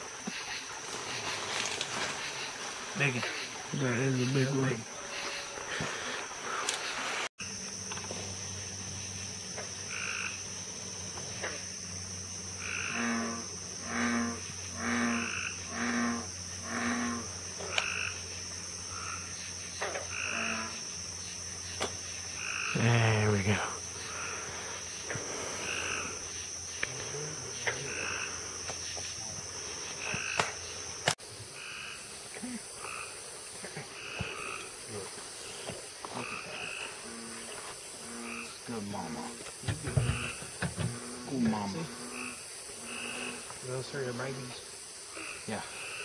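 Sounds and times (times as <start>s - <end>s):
frogs croaking: 0.0s - 46.0s.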